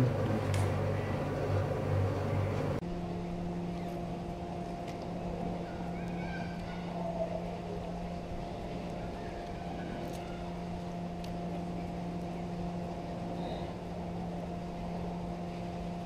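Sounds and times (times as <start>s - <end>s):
ferris wheel drive humming: 0.0s - 16.0s.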